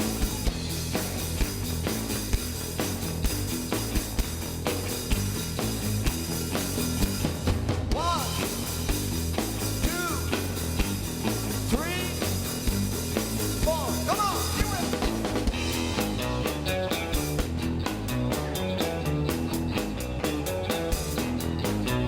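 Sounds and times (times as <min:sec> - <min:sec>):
drum beat: 0:00.0 - 0:22.0
live rock band: 0:00.0 - 0:22.0.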